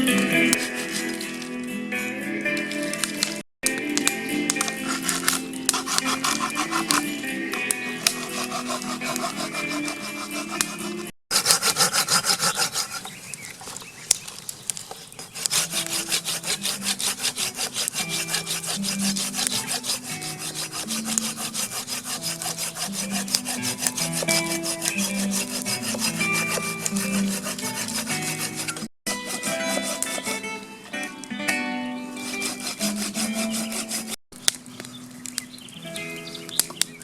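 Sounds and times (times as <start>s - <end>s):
fast scraping strokes: 0.0s - 1.7s, 4.3s - 30.6s, 32.1s - 34.2s.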